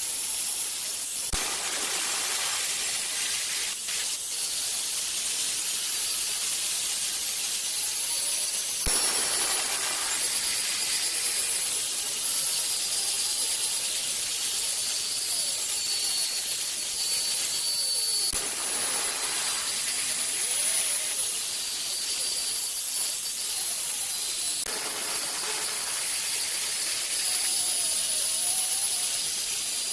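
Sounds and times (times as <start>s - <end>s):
power tool abrading steel: 0.0s - 29.9s.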